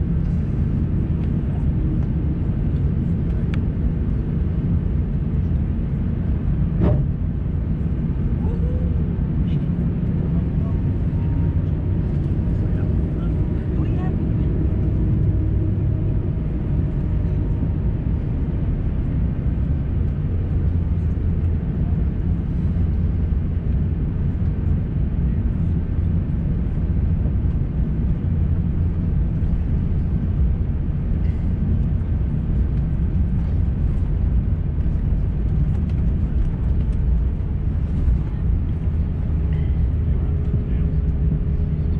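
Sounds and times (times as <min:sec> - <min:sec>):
engine and airflow rumble: 0:00.0 - 0:41.9.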